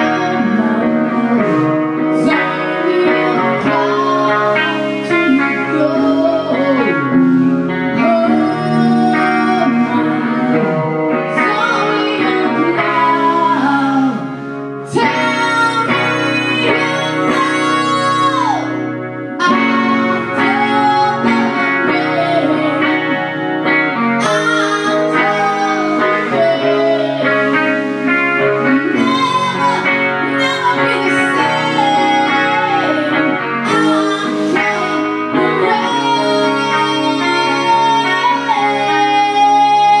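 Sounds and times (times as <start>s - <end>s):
instrumental guitar music: 0.0s - 40.0s.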